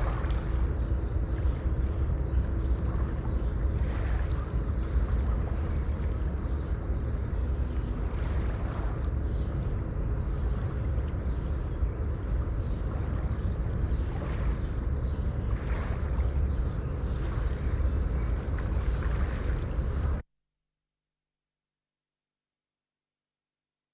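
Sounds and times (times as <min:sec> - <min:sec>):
small birds chirping: 0:00.0 - 0:20.2.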